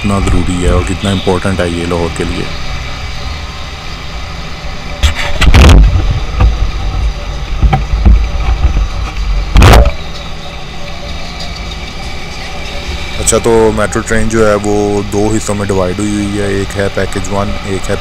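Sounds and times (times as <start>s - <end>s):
road traffic rumbling: 0.0s - 18.0s.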